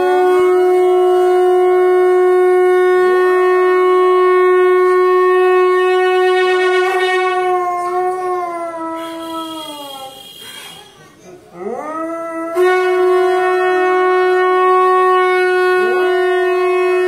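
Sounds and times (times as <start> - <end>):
dog howling: 0.0 - 10.2, 11.5 - 17.0
conch shell blown: 0.0 - 11.0, 12.3 - 17.0.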